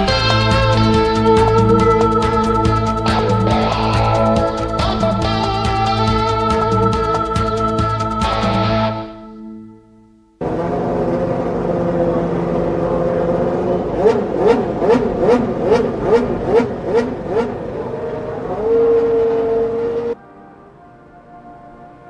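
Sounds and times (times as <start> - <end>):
racing car engine revving: 0.0 - 8.8, 10.4 - 20.2.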